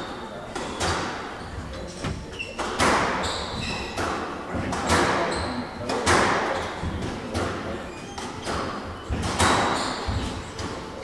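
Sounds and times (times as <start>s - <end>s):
squash ball hitting rackets and walls: 0.0s - 11.0s
shoes squeaking on wooden floor: 0.2s - 4.2s, 5.1s - 5.8s, 6.5s - 11.0s.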